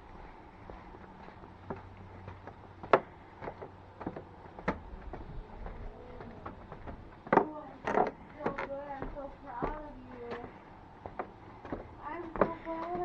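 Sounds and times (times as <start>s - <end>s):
footsteps on wooden planks: 0.1s - 13.0s.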